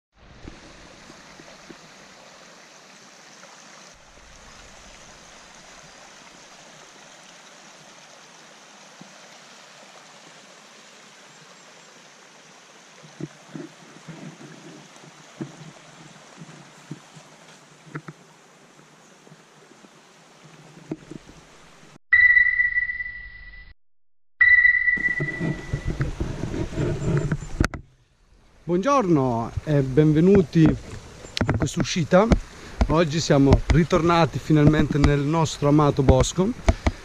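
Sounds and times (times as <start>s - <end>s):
stream running over rocks: 0.2s - 22.0s, 25.0s - 37.0s.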